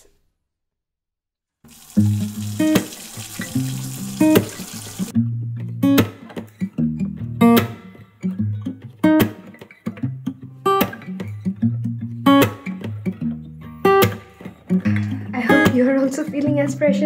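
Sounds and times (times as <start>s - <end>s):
guitar strumming: 1.7s - 17.0s.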